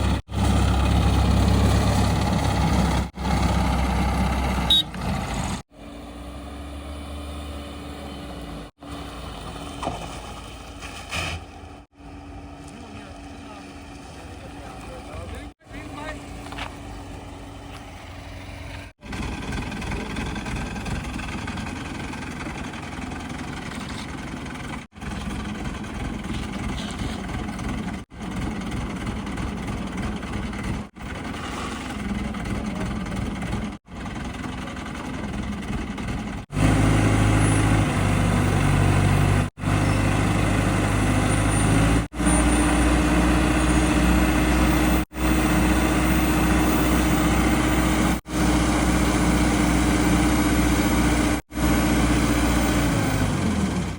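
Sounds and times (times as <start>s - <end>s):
engine low hum: 0.0s - 53.9s
heavy diesel engines running: 0.0s - 53.9s.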